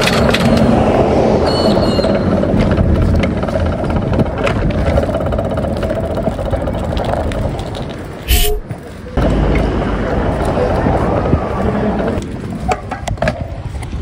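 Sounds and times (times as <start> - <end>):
bicycle rumbling over pavement: 0.0 - 14.0.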